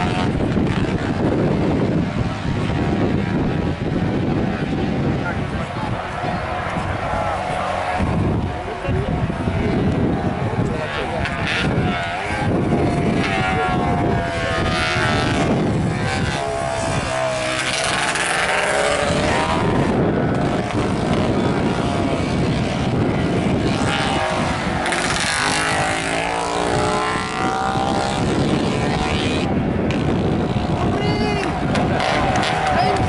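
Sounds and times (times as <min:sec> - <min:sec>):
racing motorcycles passing: 0:00.0 - 0:33.0.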